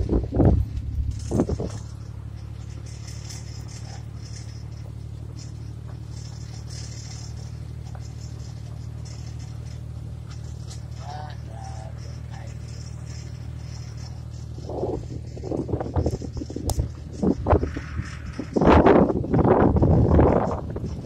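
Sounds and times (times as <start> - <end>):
vehicle engine and road hum: 0.0 - 21.0.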